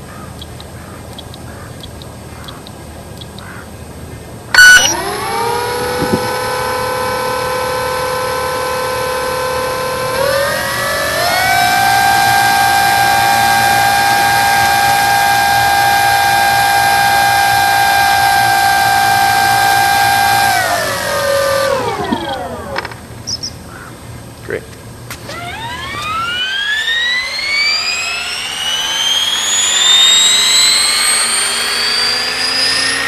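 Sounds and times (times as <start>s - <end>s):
electric motor and propeller whine: 0.0s - 33.0s.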